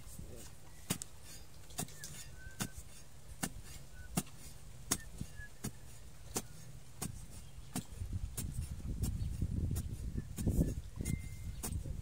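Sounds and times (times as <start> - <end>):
digging bar striking soil: 0.0 - 12.0.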